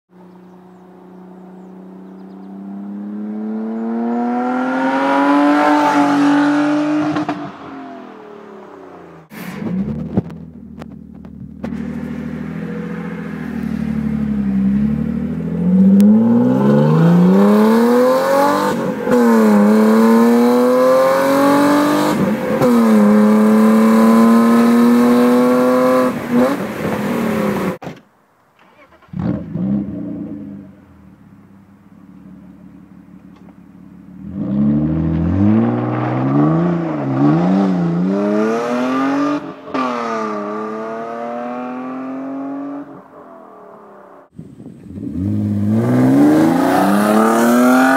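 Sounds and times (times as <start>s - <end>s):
car engine accelerating through gears: 0.4s - 27.8s, 34.2s - 43.1s, 44.8s - 47.9s.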